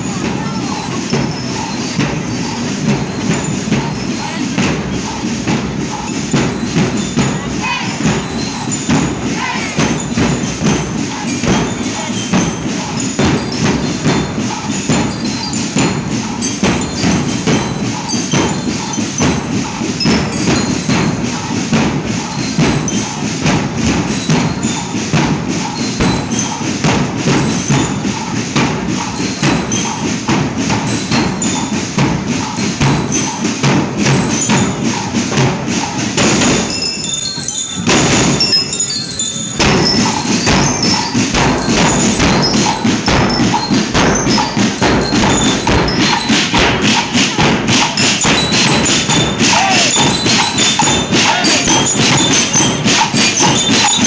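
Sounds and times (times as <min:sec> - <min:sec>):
bell-like metallic tones: 0:00.0 - 0:54.0
marching band drums: 0:00.0 - 0:54.0.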